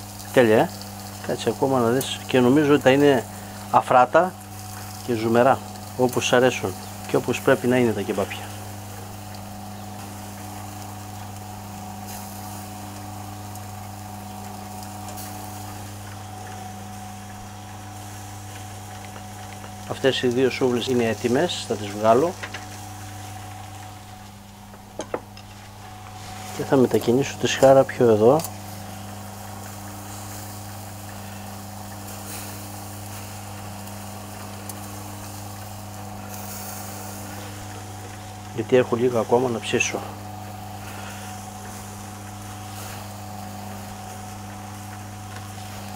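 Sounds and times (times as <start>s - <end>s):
kebabs sizzling: 0.0s - 45.9s
rotisserie motor humming: 0.0s - 45.9s.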